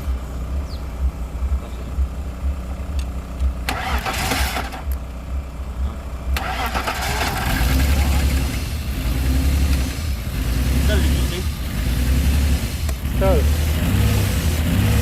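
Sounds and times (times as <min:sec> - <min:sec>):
car engine idling unevenly: 0:00.0 - 0:15.0.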